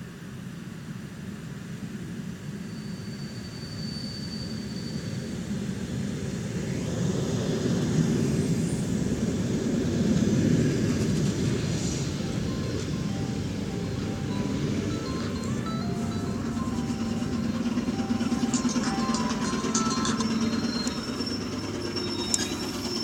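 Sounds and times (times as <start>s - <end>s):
electric train rolling past: 2.4s - 23.0s.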